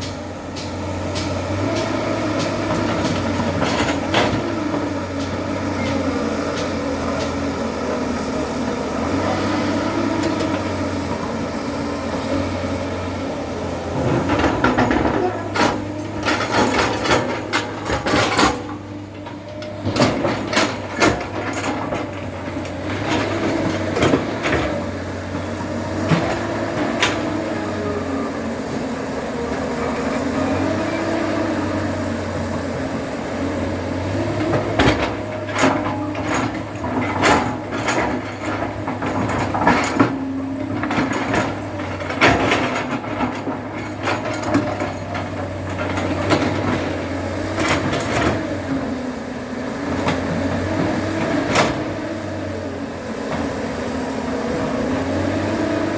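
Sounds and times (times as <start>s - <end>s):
machine knocks and clanks: 0.0s - 28.8s, 29.5s - 52.6s
backhoe diesel engine: 0.0s - 55.9s.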